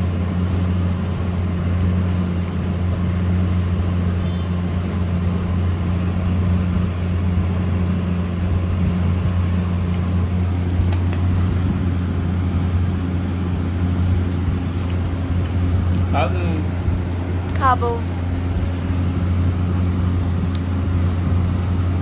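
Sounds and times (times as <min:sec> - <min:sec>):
low machine hum with hiss: 0:00.0 - 0:22.0.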